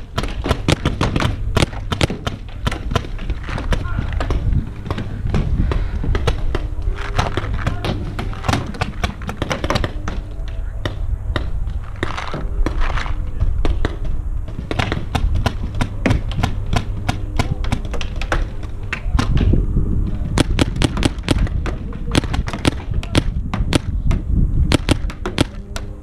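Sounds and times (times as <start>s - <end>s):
paintball markers firing: 0.0s - 19.5s, 20.4s - 26.0s
steady low rumble: 0.0s - 26.0s.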